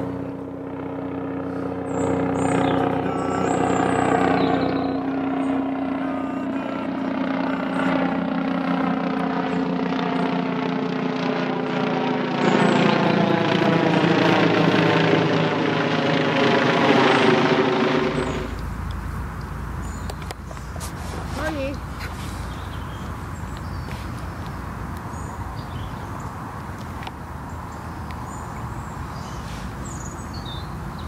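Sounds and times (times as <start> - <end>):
aircraft engine drone: 0.0 - 31.0.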